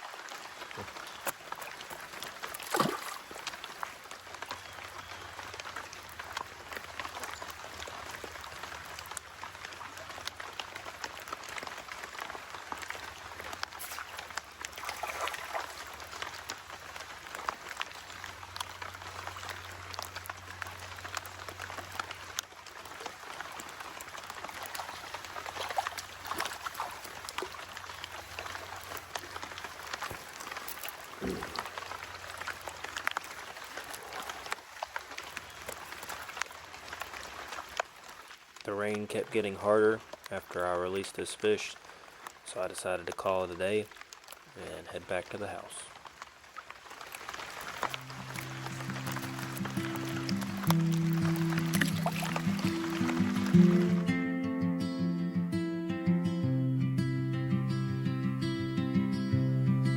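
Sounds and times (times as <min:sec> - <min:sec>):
rain swishes: 0:00.0 - 0:54.1
steady rain falling: 0:00.0 - 0:54.1.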